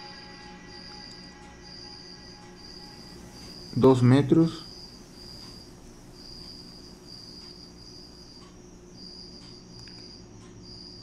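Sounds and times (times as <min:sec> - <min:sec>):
cricket trilling: 0:00.0 - 0:11.0
faint low hum: 0:00.0 - 0:11.0.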